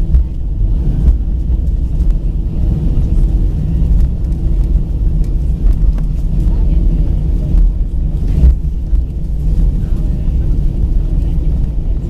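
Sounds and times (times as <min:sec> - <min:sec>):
jet engines deep rumble: 0:00.0 - 0:12.0.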